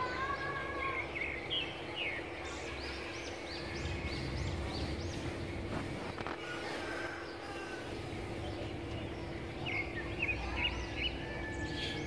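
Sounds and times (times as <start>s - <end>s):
birds calling: 0.0s - 12.0s
faint steady hum: 0.0s - 12.0s.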